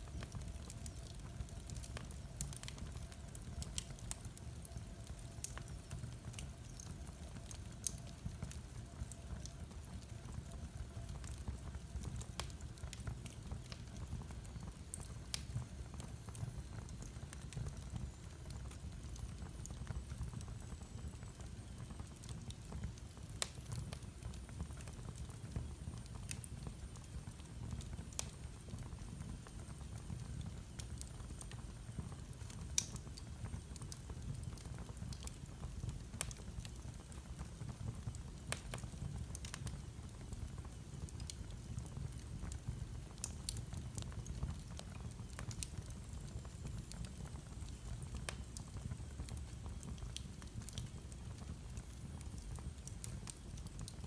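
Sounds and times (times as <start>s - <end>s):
fire crackles and pops: 0.0s - 54.0s
fire rumbling: 0.0s - 54.0s.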